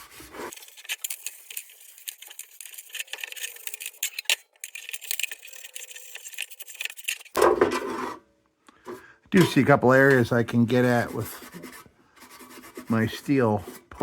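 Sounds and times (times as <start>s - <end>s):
steel wool scratching on tin: 0.0s - 8.2s, 9.4s - 14.0s.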